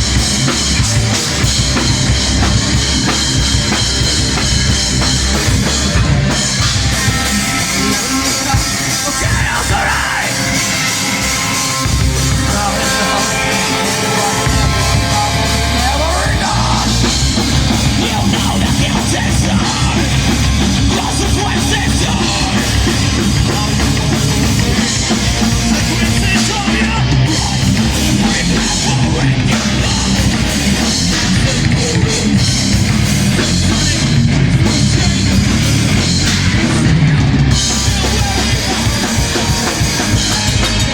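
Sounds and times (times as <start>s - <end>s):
heavy metal band playing live: 0.0s - 40.9s
sliding guitar line: 0.0s - 40.9s.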